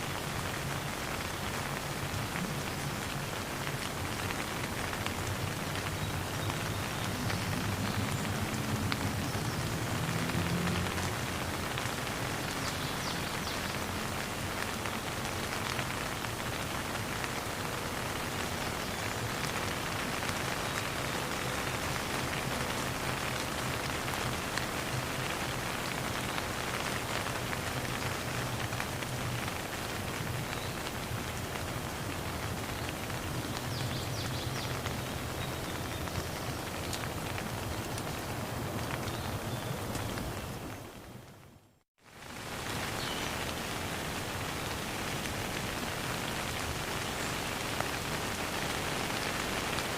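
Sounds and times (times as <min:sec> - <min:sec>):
rain pattering: 0:00.0 - 0:49.9.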